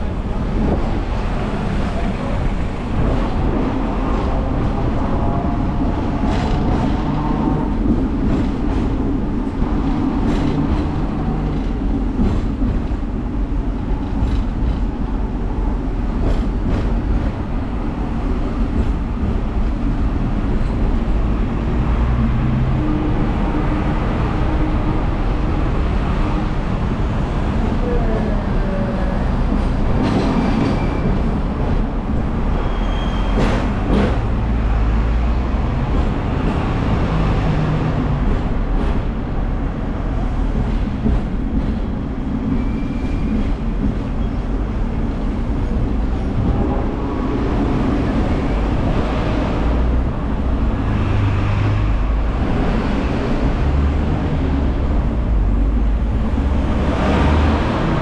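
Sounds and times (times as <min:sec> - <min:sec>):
tram wheels and motor rumbling: 0:00.0 - 0:58.0.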